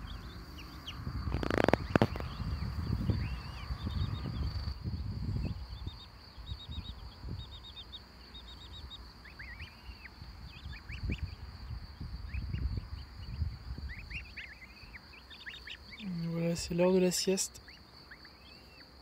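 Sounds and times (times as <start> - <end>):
goslings and ducklings peeping: 0.0 - 4.6, 5.4 - 19.0.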